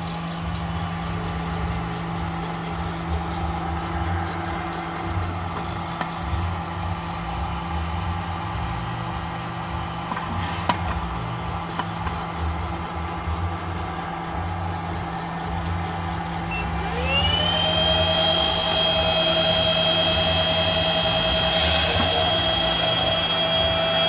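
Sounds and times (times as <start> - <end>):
motor spinning up whine: 0.0 - 24.0
roaster motors humming: 0.0 - 24.0.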